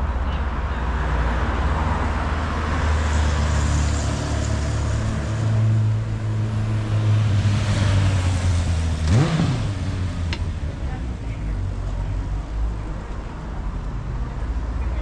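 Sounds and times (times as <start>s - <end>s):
street traffic noise: 0.0s - 15.0s
vehicle engine humming: 0.0s - 15.0s.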